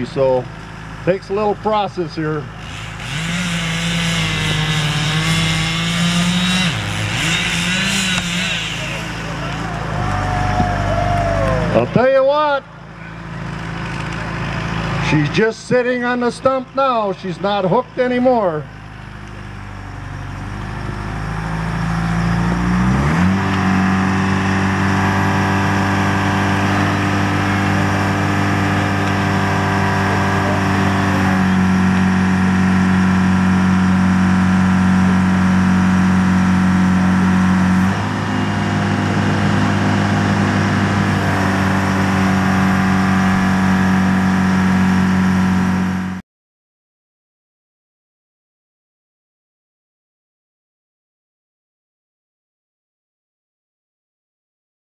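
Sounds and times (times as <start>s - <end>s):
diesel engine revving: 0.0s - 46.2s.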